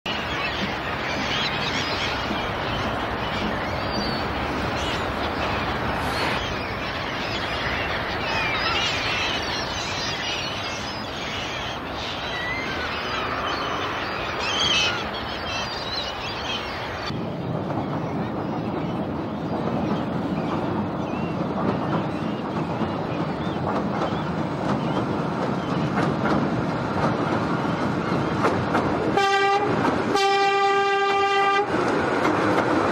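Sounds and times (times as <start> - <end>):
birds calling: 0.1 - 31.5
open-air noise: 0.1 - 32.9.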